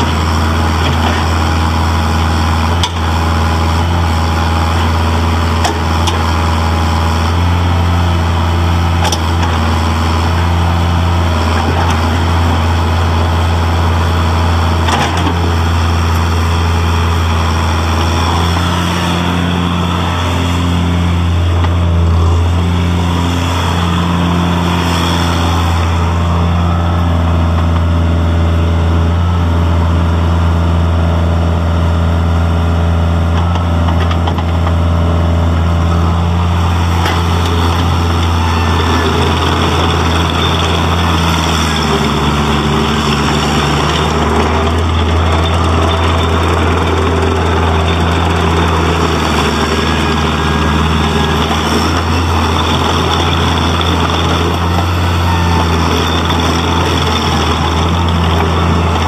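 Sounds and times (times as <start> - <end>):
hydraulics working: 0.0 - 30.0, 32.6 - 59.0
diesel engine droning: 0.0 - 59.0.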